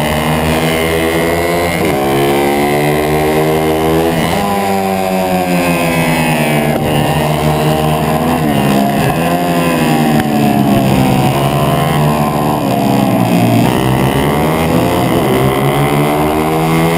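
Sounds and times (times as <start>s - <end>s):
motorbike engine racing: 0.0s - 16.9s.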